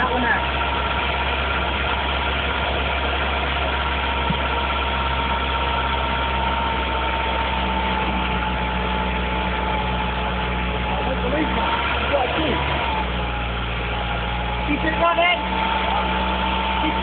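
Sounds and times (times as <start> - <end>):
car engine idling: 0.0 - 17.0
thin steady whine: 0.0 - 17.0.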